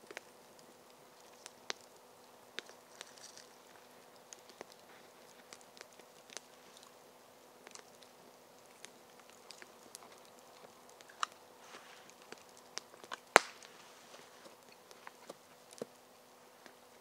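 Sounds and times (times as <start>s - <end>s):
small clicks and crackles: 0.0s - 17.0s.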